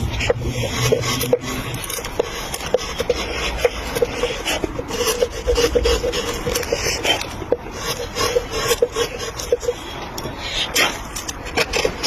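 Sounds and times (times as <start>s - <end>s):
hand tool scraping wood: 0.0s - 12.0s.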